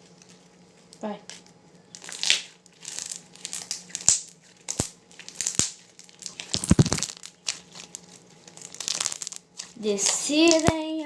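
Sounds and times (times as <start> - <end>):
slime popping and crackling: 0.0 - 10.9.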